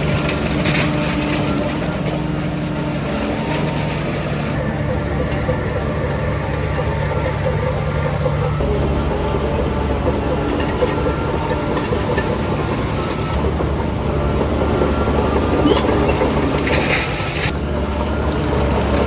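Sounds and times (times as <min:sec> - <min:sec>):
bulldozer diesel engine running: 0:00.0 - 0:19.0
steel tracks clattering: 0:00.0 - 0:19.0.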